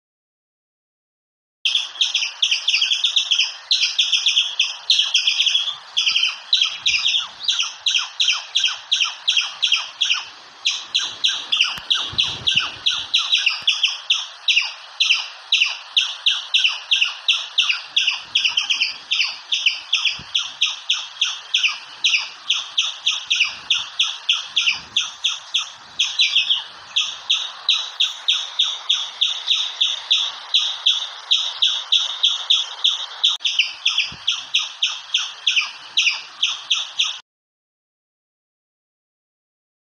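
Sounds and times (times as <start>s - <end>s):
squirrel chirping: 1.7s - 37.2s.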